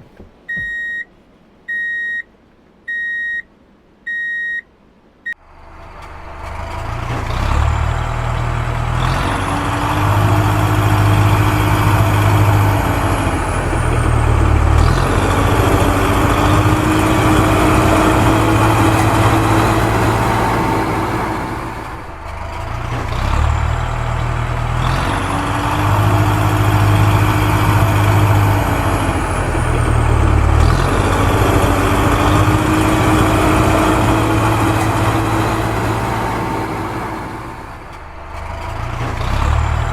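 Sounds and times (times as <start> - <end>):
heavy machinery engine running: 5.4 - 39.9.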